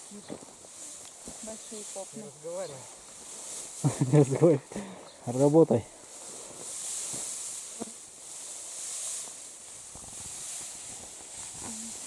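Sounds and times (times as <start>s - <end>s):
dry hay rustling: 0.0s - 12.0s
steady high hiss: 0.0s - 12.0s.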